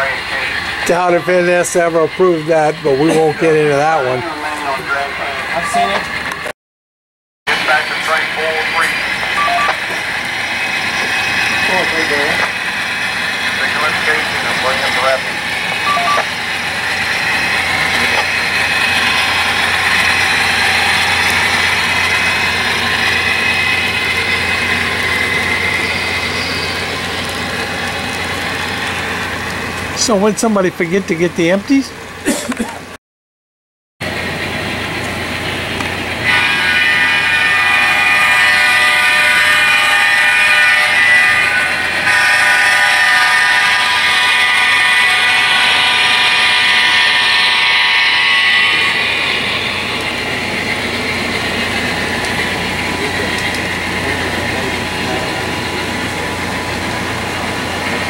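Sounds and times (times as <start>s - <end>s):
model train running: 0.0s - 6.5s, 7.5s - 32.2s, 34.0s - 58.0s.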